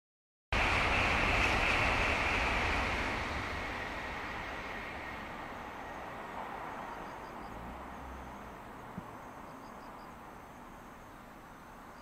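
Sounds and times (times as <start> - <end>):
distant train rumble: 0.5 - 12.0
insect chirping: 1.8 - 12.0.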